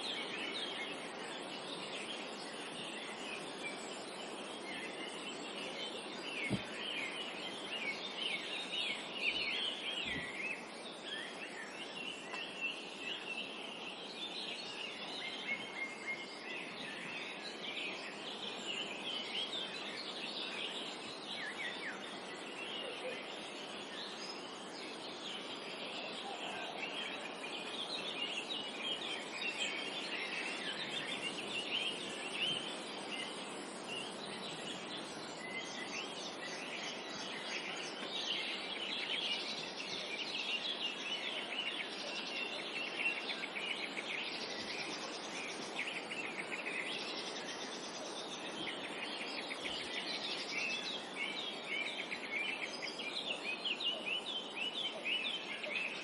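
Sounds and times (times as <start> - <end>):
birds chirping and trilling: 0.0 - 56.0
steady background hiss: 0.0 - 56.0.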